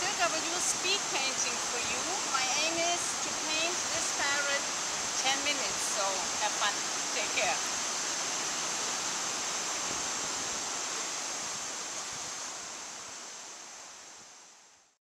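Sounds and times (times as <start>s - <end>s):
high hiss: 0.0s - 15.0s.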